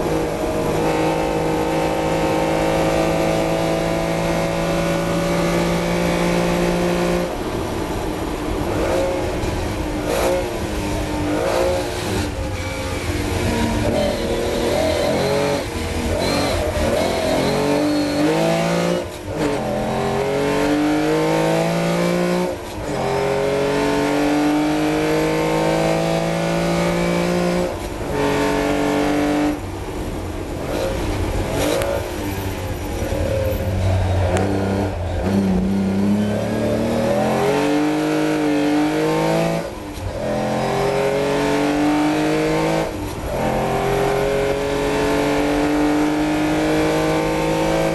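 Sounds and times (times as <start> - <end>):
racing car engine revving: 8.6 - 29.7, 30.6 - 47.9.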